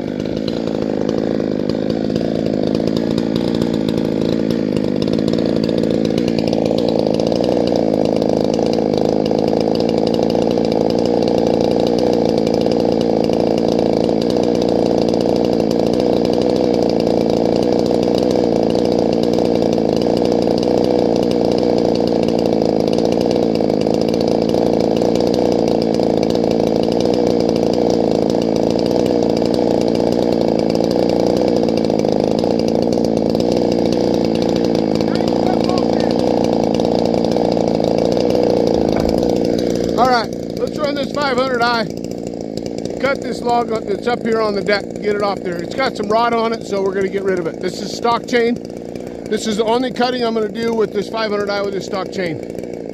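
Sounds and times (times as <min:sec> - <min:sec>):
chainsaw cutting log at full throttle: 0:00.0 - 0:52.9.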